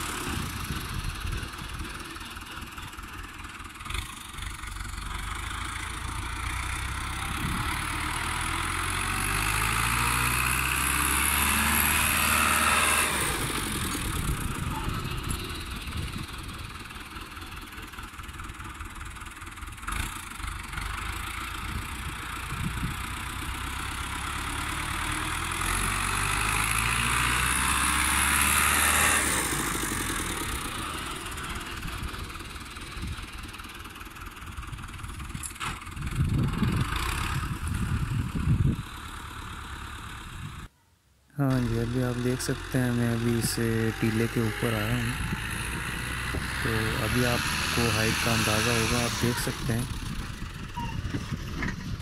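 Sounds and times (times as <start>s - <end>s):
tractor diesel engine under load: 0.0s - 40.7s, 41.3s - 52.0s.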